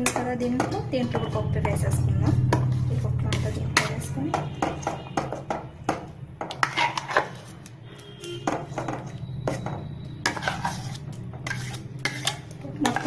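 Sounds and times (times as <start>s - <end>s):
spoon scraping a steel bowl: 0.0s - 5.5s, 6.5s - 13.0s.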